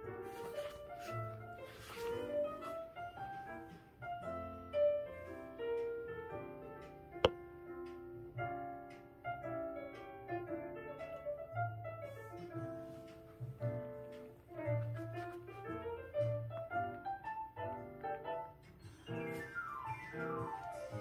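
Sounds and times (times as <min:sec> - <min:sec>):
classical piano music: 0:00.0 - 0:21.0.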